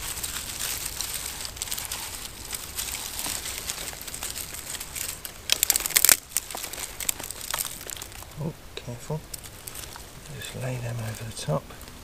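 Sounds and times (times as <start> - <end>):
dry sticks being handled: 0.0 - 8.5, 9.2 - 12.0
kindling fire crackling: 0.0 - 12.0.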